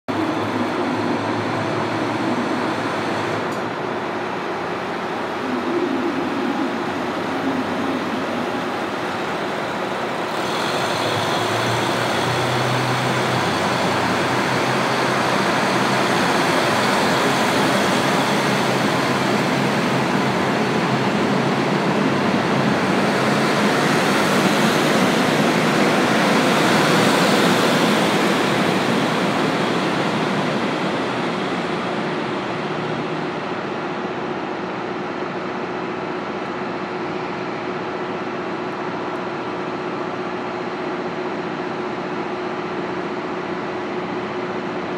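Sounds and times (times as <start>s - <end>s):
train cars running over rails: 0.1s - 44.9s.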